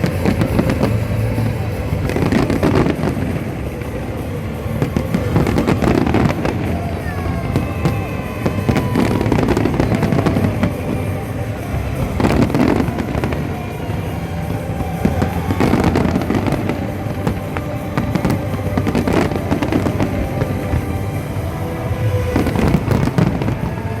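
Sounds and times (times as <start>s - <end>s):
fireworks bursting with sharp bangs: 0.0s - 24.0s
music playing: 0.0s - 24.0s
rumble and crackle of fireworks: 0.0s - 24.0s.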